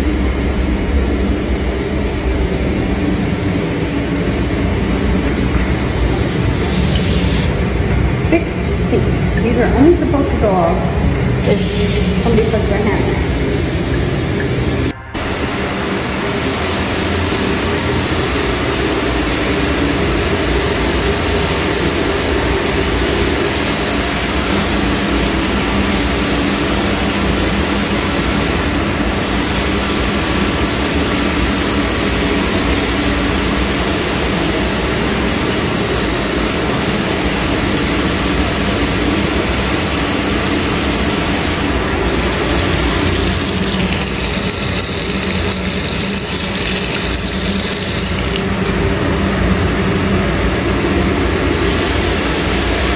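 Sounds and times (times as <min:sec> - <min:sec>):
water running into a sink: 0:01.4 - 0:07.6, 0:11.4 - 0:48.8, 0:51.4 - 0:52.9.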